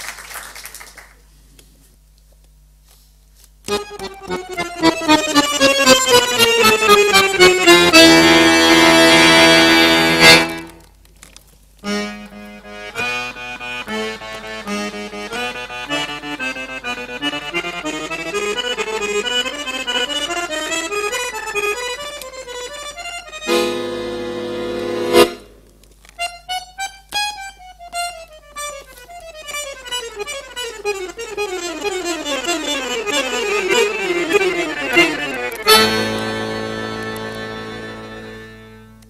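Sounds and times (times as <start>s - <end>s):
piano accordion: 3.6s - 10.9s, 11.8s - 39.0s.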